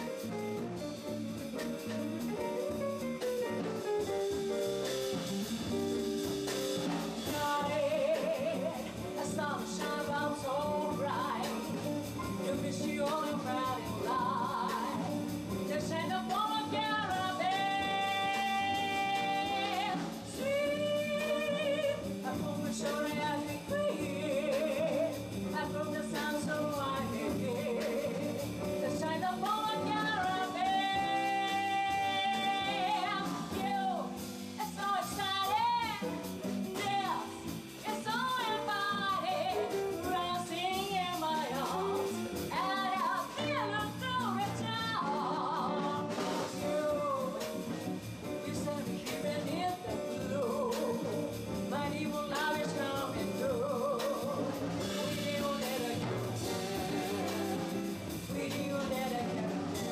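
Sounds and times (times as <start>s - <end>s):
live band playing: 0.0s - 59.9s
woman singing jazz: 0.0s - 59.9s.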